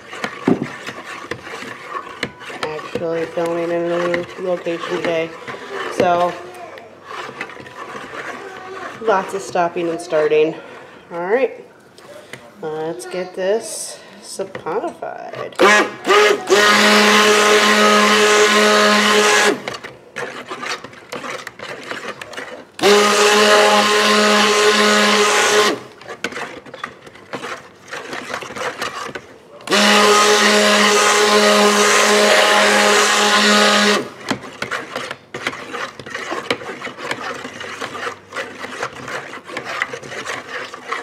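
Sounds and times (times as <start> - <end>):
stick blender motor whine: 0.0 - 10.5, 15.6 - 41.0.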